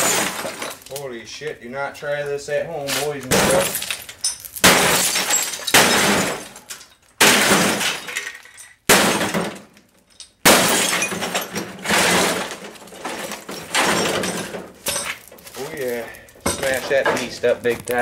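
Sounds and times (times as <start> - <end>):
glass shattering: 0.0 - 1.0, 2.9 - 18.0.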